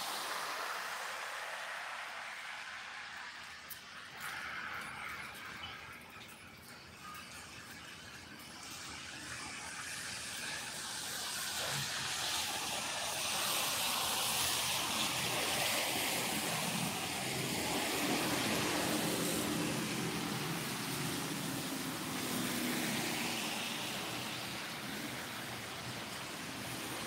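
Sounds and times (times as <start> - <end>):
tyres hissing on wet road: 0.0 - 5.9, 8.4 - 27.0.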